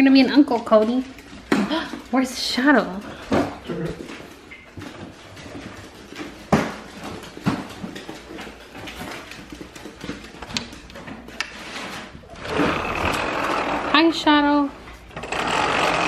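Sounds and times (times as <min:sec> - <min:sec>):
footsteps on hardwood floor: 0:00.0 - 0:15.1.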